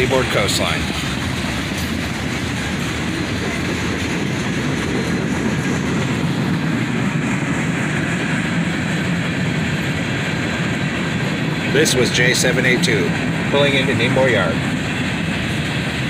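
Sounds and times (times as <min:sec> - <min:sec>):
steel wheels running on rails: 0:00.0 - 0:16.0.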